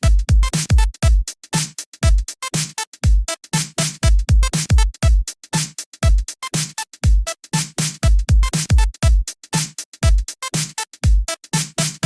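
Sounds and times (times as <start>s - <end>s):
kick drum: 0.0s - 2.3s, 3.0s - 6.3s, 7.0s - 10.3s, 11.0s - 12.0s.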